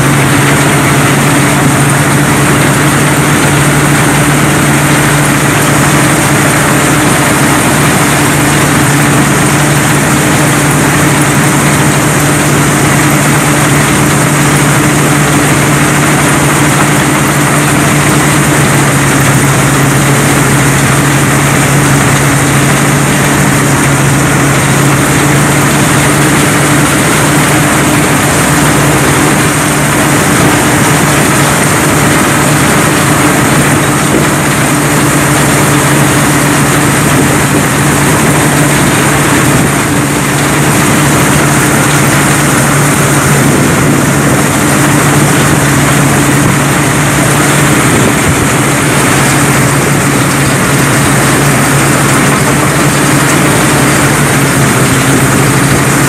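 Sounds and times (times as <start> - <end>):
combine harvester engine drone: 0.0 - 56.0
mechanical rush: 0.0 - 56.0.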